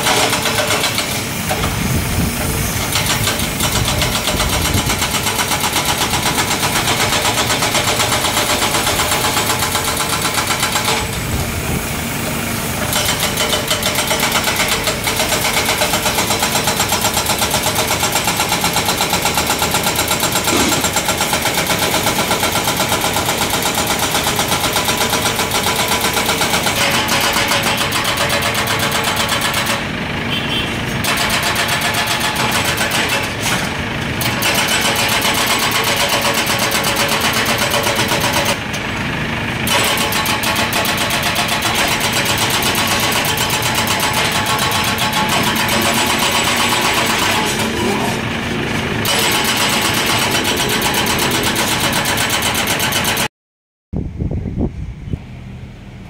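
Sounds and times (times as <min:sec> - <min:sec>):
heavy diesel machinery clattering: 0:00.0 - 0:53.3.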